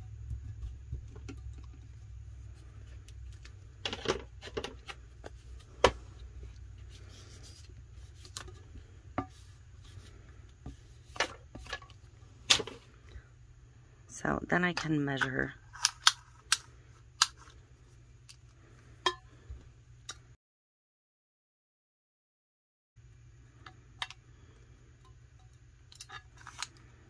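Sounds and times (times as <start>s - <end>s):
low steady hum: 0.0s - 20.4s, 23.0s - 27.0s.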